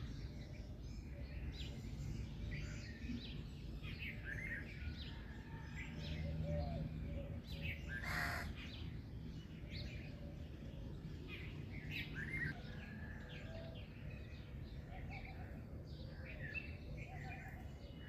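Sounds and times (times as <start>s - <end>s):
songbirds chirping and singing: 0.0s - 18.0s.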